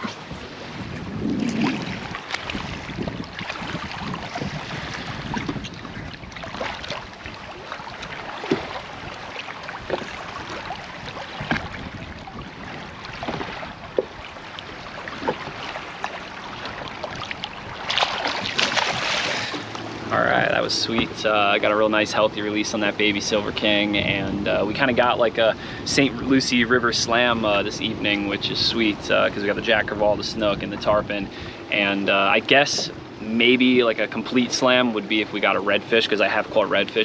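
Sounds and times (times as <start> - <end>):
water splashing and sloshing: 0.0 - 37.0.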